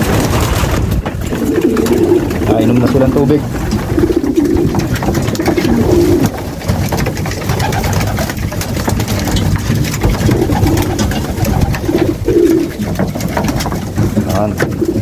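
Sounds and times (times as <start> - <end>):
pigeons cooing: 0.0 - 15.0
wings flapping: 0.0 - 15.0.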